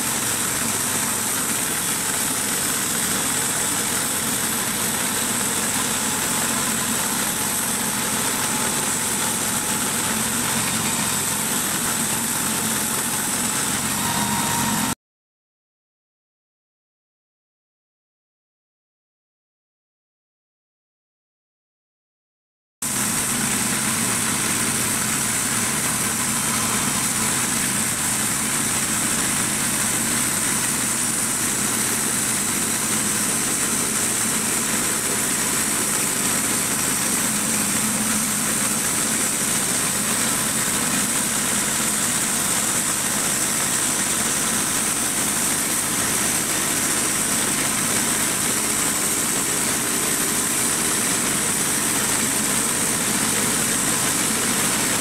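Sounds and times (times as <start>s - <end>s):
gas engine running under load: 0.0s - 15.0s, 22.8s - 55.0s.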